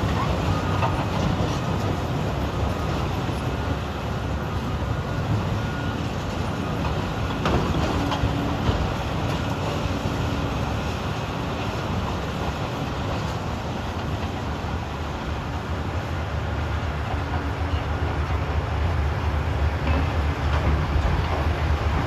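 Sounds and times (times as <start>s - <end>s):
diesel machinery rumbling: 0.0s - 22.0s.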